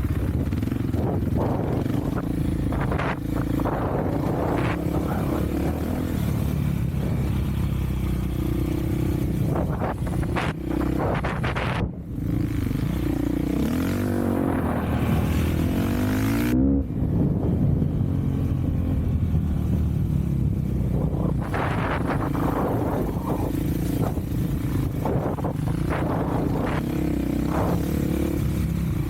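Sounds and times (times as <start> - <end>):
off-road vehicle engine revving: 0.0 - 19.8, 20.4 - 29.0.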